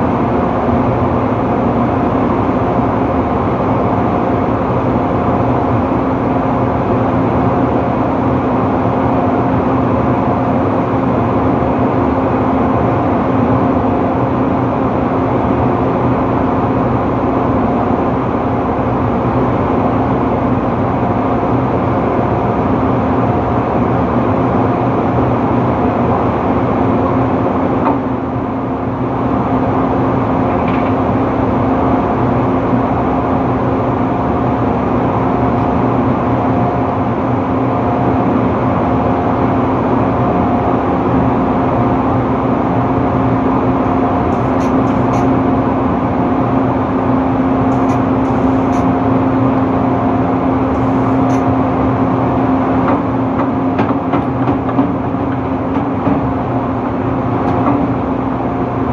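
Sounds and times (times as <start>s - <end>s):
drilling rig machinery drone: 0.0s - 58.9s.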